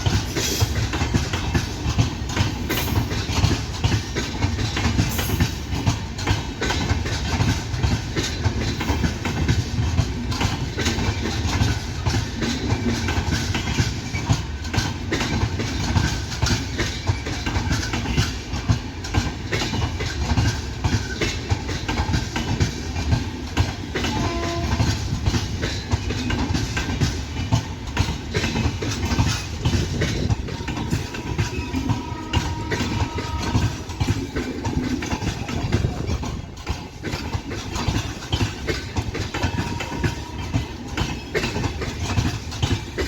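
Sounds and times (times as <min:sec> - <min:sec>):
train wheels clattering over rail joints: 0:00.0 - 0:43.0.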